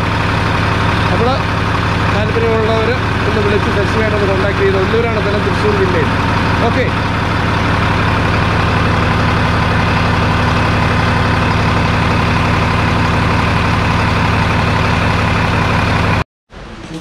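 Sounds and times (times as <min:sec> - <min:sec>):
diesel lorry engine idling: 0:00.0 - 0:16.2.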